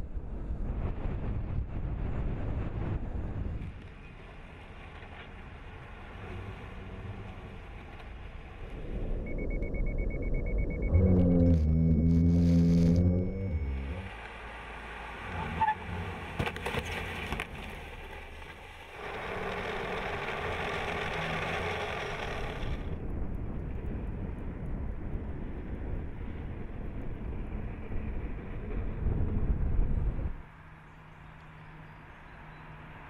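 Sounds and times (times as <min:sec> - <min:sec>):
car tyre road and wind noise: 0:00.0 - 0:33.0
engine rumble: 0:00.0 - 0:33.0.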